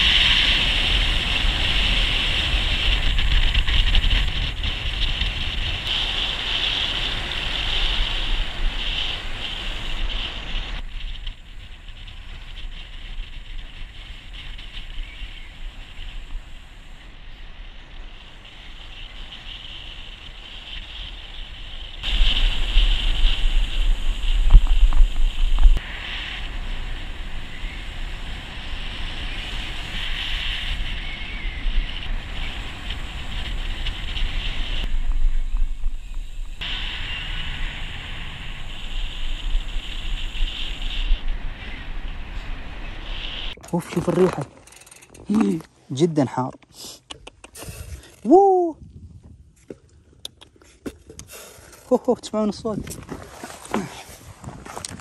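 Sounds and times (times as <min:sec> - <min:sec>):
wind buffeting microphone: 0:00.0 - 0:43.6, 0:47.6 - 0:50.1.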